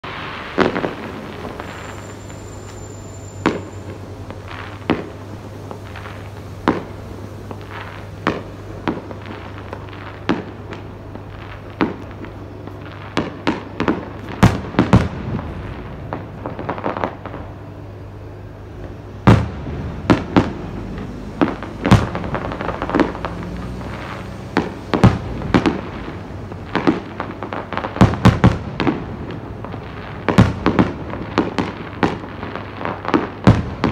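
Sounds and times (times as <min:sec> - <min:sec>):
fireworks bursting: 0:00.0 - 0:33.9
steady low hum: 0:00.0 - 0:33.9.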